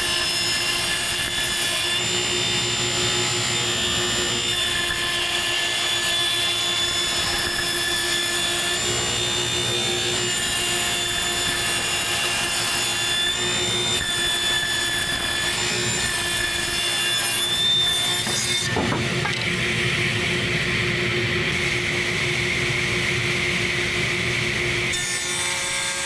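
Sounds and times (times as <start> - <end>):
electric saw cutting board: 0.0 - 26.0.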